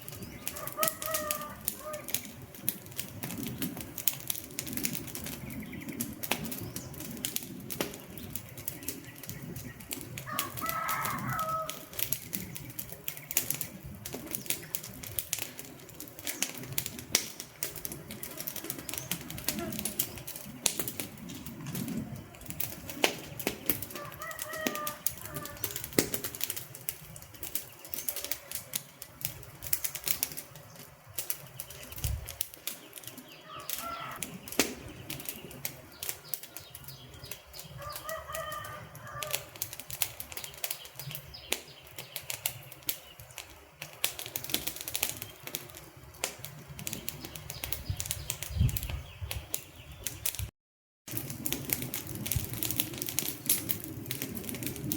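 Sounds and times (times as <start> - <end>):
campfire crackling and popping: 0.0 - 50.5, 51.1 - 54.9
low hiss of flame: 0.0 - 50.5, 51.1 - 54.9.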